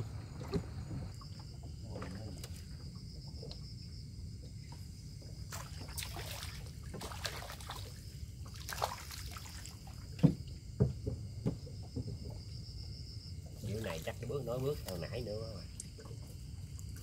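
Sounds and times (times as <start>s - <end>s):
crickets chirping: 0.0s - 17.0s
water sloshing and trickling: 0.0s - 17.0s.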